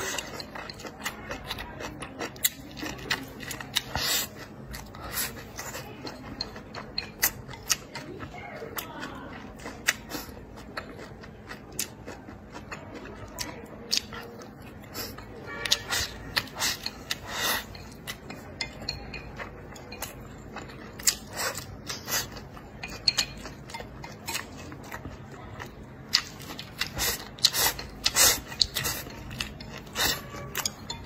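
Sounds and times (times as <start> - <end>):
chewing and lip smacks: 0.0 - 18.4, 19.4 - 31.0.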